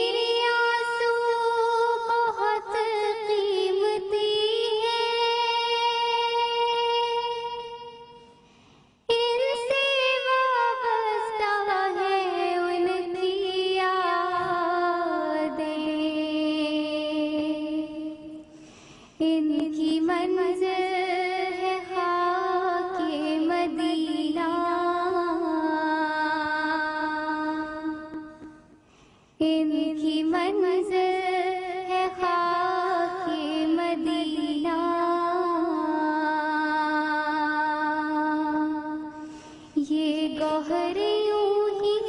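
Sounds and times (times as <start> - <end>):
girl singing unaccompanied: 0.0 - 8.3, 9.1 - 18.5, 19.2 - 28.7, 29.4 - 42.0.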